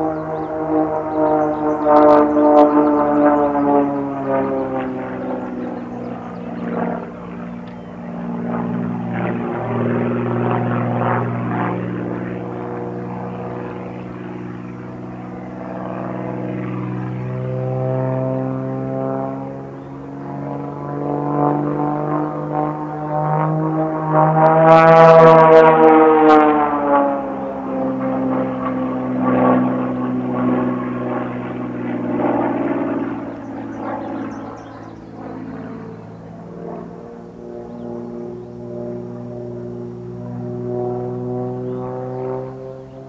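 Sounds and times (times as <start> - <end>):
airplane propeller engine droning: 0.0 - 43.0.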